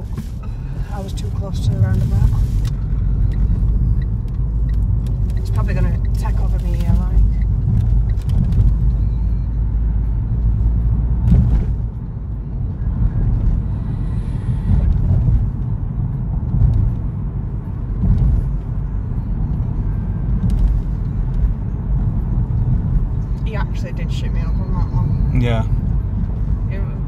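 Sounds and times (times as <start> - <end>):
road vehicle rumble: 0.0 - 27.0.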